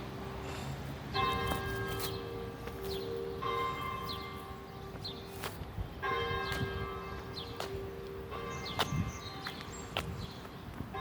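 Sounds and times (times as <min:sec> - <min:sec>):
church bells ringing: 0:01.0 - 0:10.0.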